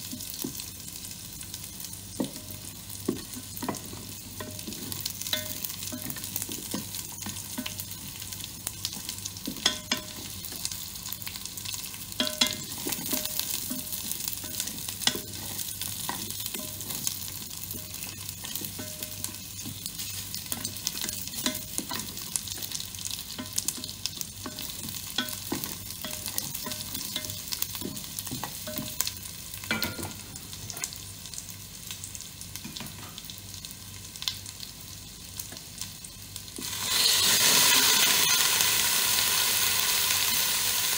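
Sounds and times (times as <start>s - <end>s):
spices sizzling in hot oil: 0.0s - 40.9s.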